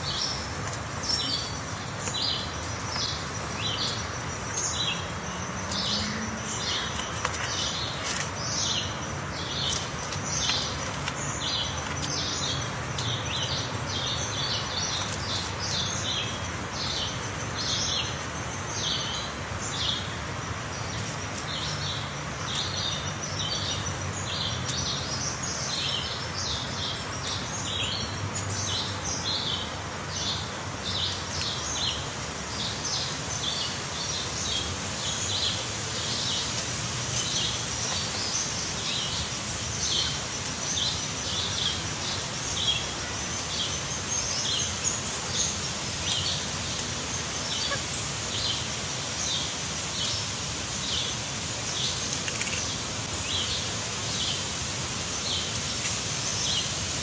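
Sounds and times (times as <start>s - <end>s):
small birds chirping: 0.0s - 57.0s
steady outdoor hiss: 0.0s - 57.0s.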